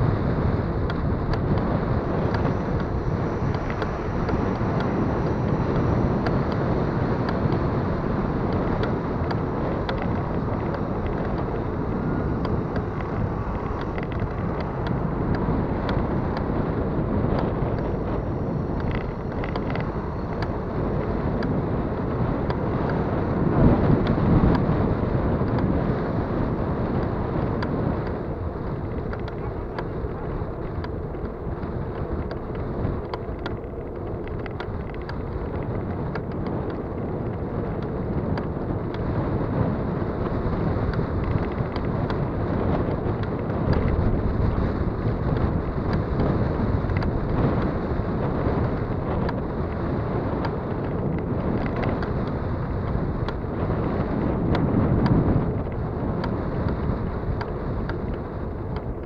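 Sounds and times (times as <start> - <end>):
bicycle drivetrain clicking: 0.0 - 59.0
wind on microphone: 0.0 - 59.0.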